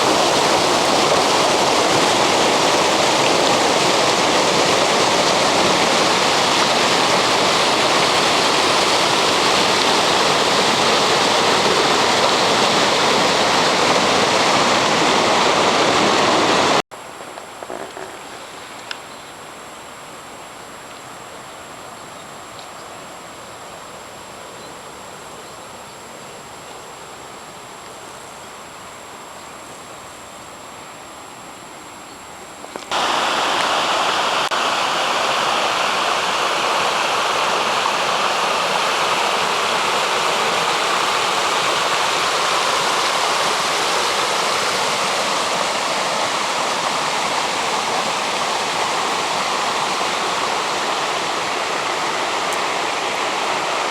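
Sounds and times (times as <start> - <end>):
water rushing: 0.0 - 29.2, 32.7 - 53.9.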